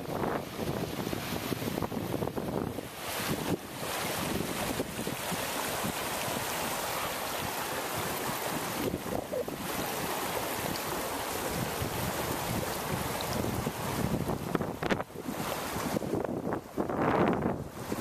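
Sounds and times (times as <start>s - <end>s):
river water rushing: 0.0s - 18.0s
wind buffeting microphone: 0.0s - 18.0s.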